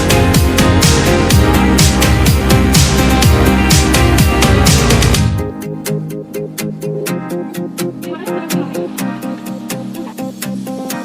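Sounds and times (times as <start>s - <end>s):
electronic music with bass hits: 0.0s - 11.0s.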